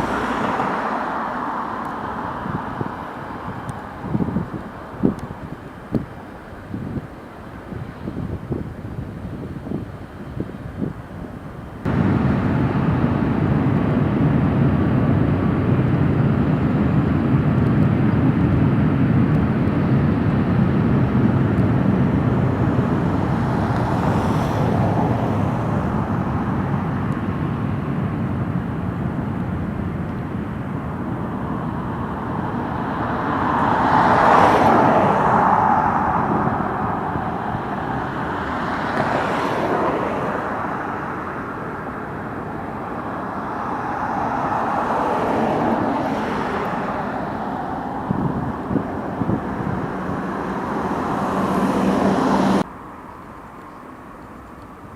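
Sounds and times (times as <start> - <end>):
road vehicles swishing past: 0.0 - 8.2, 11.5 - 54.9
jet engines rumbling: 0.0 - 54.9.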